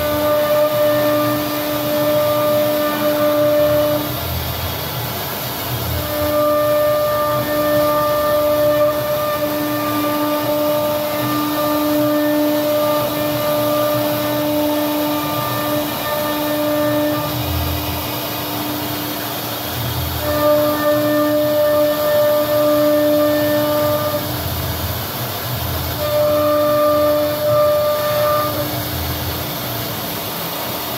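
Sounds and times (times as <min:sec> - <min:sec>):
router spindle whine: 0:00.0 - 0:30.9.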